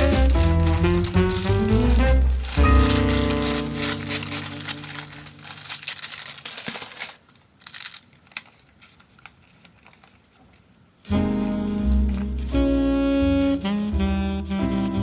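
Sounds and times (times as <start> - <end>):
paper and packaging crinkling: 0.0 - 15.0.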